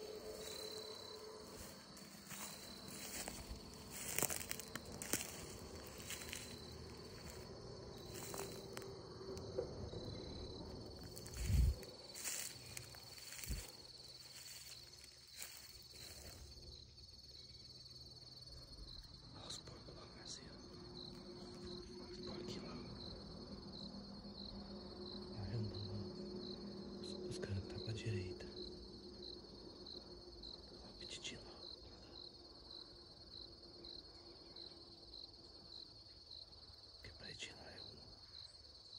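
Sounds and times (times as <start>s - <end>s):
high-pitched insect chirping: 0.0s - 38.9s.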